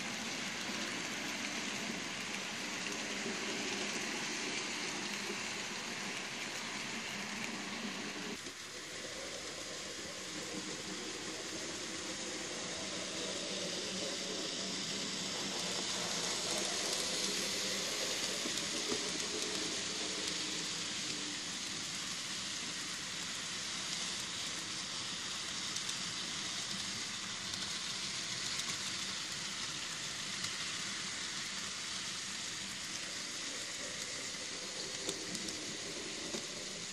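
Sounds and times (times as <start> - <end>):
model train wheels hissing on rails: 0.0 - 36.9.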